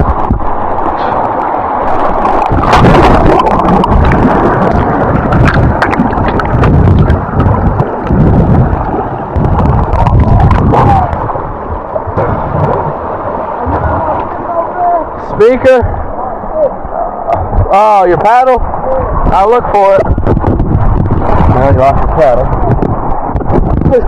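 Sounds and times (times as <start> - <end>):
river water rushing and splashing: 0.0 - 24.0.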